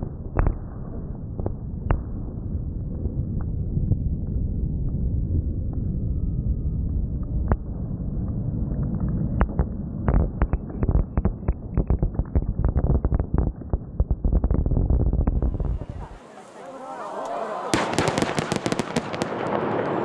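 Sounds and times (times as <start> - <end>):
muffled fireworks booms: 0.0 - 16.3, 17.7 - 20.0
small fireworks crackling: 0.0 - 20.0.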